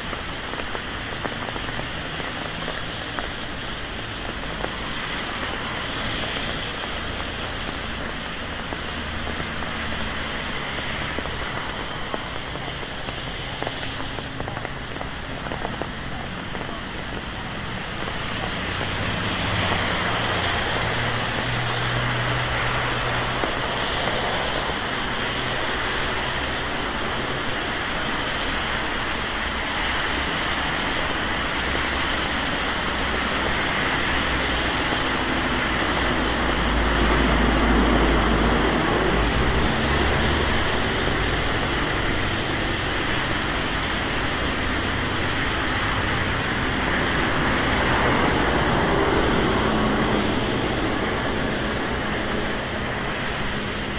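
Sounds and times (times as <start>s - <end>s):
low rumble of passing vehicles: 0.0s - 53.9s
steady rain on street: 0.0s - 53.9s
traffic hissing on wet road: 0.0s - 53.9s.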